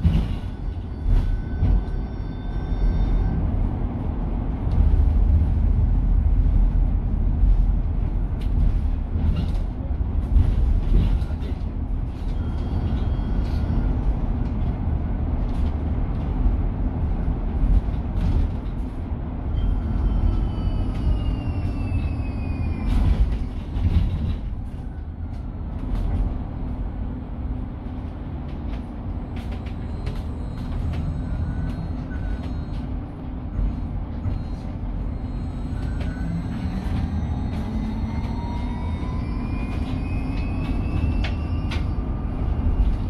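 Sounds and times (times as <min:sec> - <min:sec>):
road rumble: 0:00.0 - 0:43.0.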